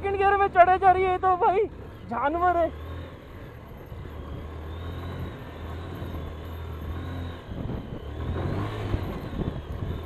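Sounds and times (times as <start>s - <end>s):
motorcycle engine under load: 0.0s - 10.0s.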